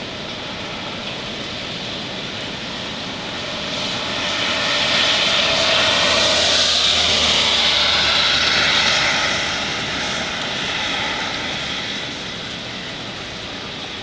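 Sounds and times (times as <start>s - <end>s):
hurricane wind gusting: 0.0s - 14.0s.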